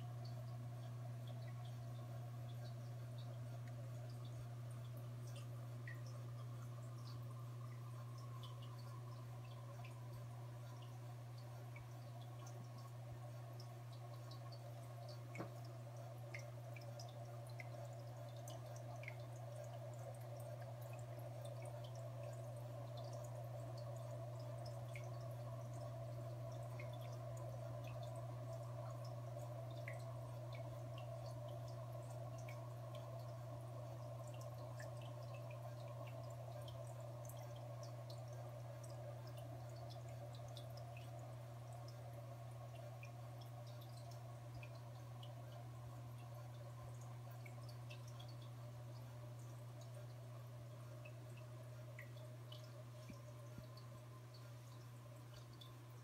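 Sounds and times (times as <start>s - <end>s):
filter motor hum: 0.0s - 56.0s
water trickling and dripping: 0.0s - 56.0s.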